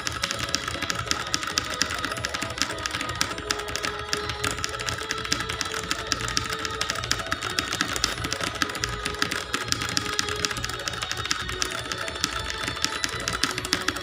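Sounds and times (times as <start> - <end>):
fast typing on clicky keyboard: 0.0 - 14.0.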